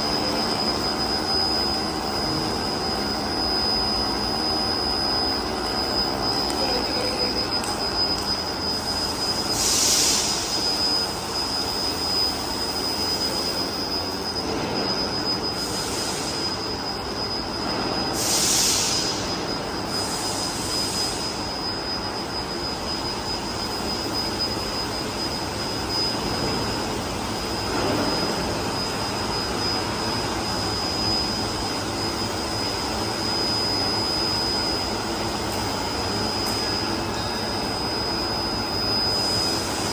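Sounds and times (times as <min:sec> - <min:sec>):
high-pitched whine: 0:00.0 - 0:39.9
welding equipment roar and hiss: 0:00.0 - 0:39.9.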